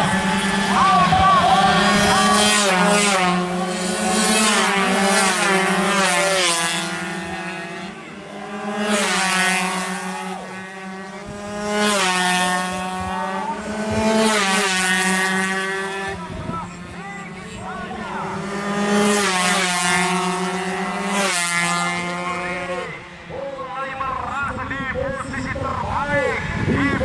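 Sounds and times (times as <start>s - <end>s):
racing motorcycles passing: 0.0s - 27.0s.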